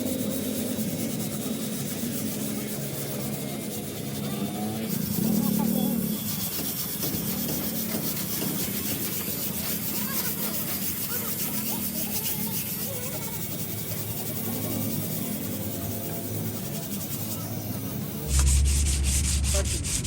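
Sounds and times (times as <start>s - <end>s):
sanding car body panel: 0.0s - 20.0s.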